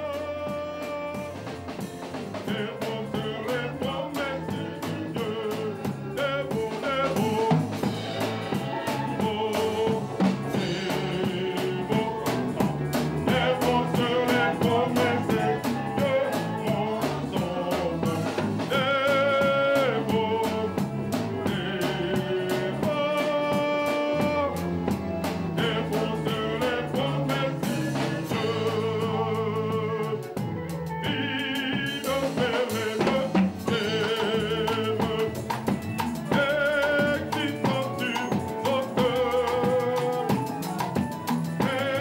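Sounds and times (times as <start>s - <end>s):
drum kit beat: 0.0s - 42.0s
instruments playing along: 0.0s - 42.0s
person singing: 0.0s - 42.0s.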